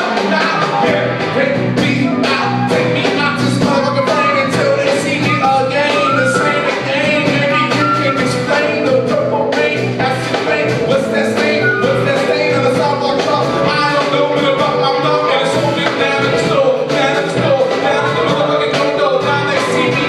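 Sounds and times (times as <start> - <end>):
live band playing: 0.0 - 20.0
flute melody of short notes: 1.9 - 20.0.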